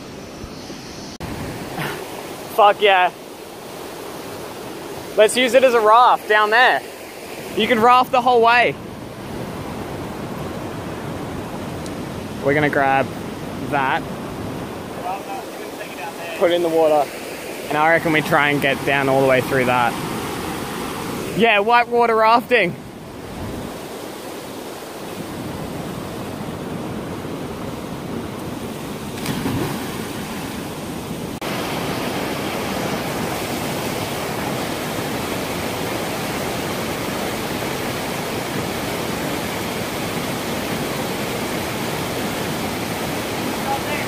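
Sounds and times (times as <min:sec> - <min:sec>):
creek water rushing: 0:00.0 - 0:44.0.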